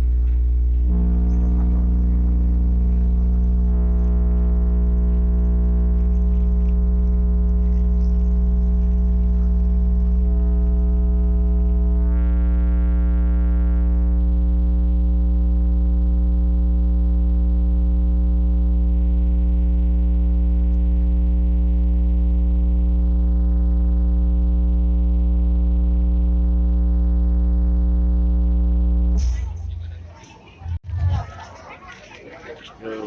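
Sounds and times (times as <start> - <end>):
deep bass test tone: 0.0 - 31.3.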